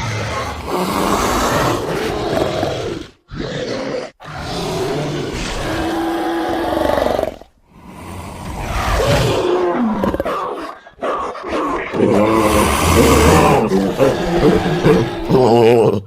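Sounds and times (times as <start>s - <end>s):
creature roaring: 0.0s - 16.0s.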